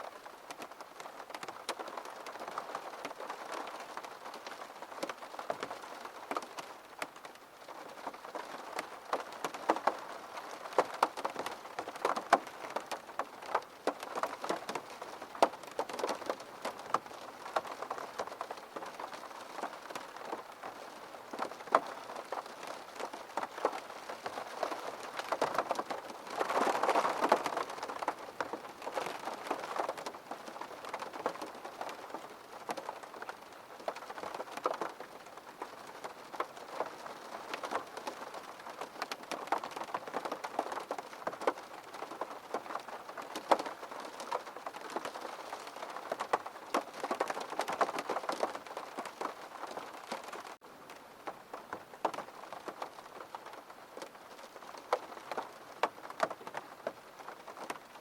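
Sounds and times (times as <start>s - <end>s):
rain pattering on a window: 0.0s - 58.0s
sharp taps of raindrops: 0.1s - 58.0s.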